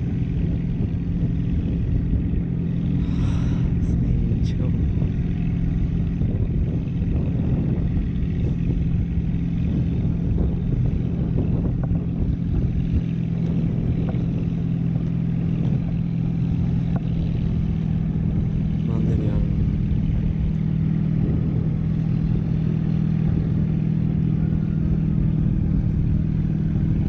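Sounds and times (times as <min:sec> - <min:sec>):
constant low hum: 0:00.0 - 0:27.0
wind buffeting microphone: 0:00.0 - 0:27.0.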